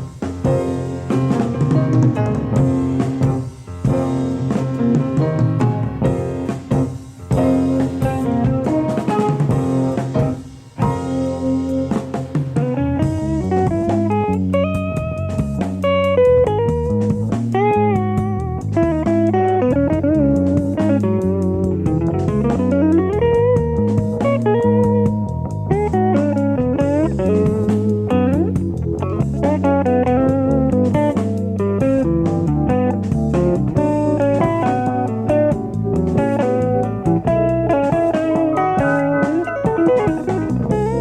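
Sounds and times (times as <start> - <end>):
bass: 0.0 - 41.0
drums: 0.0 - 41.0
electric guitar lead: 0.0 - 41.0
guitar chords: 0.0 - 41.0.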